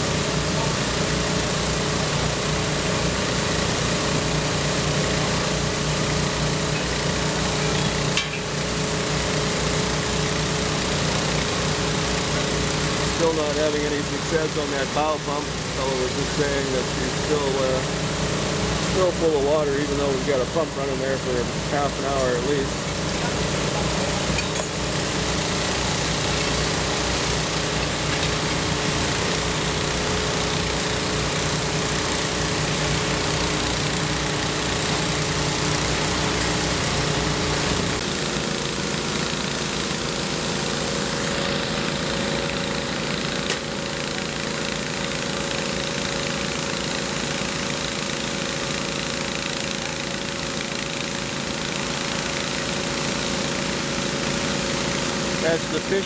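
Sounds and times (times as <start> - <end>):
engine-driven pumps running: 0.0 - 56.0.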